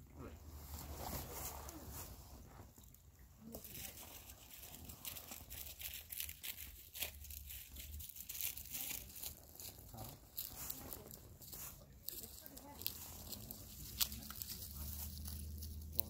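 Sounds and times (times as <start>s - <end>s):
fabric rustling and crinkling: 0.2s - 16.0s.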